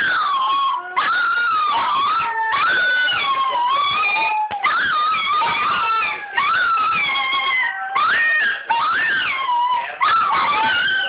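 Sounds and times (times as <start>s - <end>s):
dog howling: 0.0s - 11.0s.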